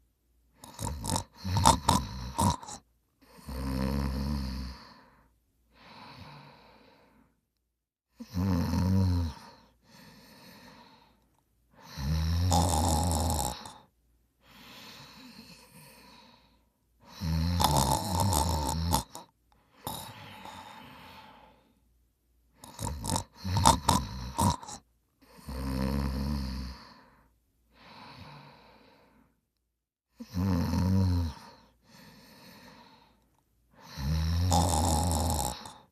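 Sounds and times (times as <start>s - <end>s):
person snoring: 0.6s - 7.3s, 8.1s - 11.2s, 11.8s - 21.8s, 22.6s - 29.3s, 30.1s - 33.2s, 33.8s - 35.9s.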